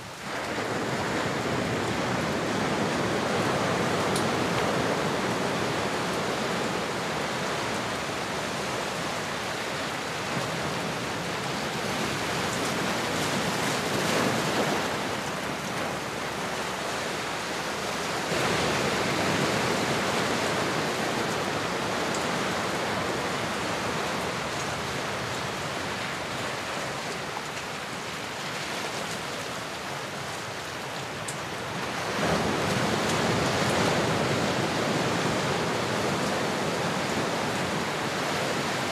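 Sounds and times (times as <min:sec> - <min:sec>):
ocean waves rushing: 0:00.0 - 0:38.9.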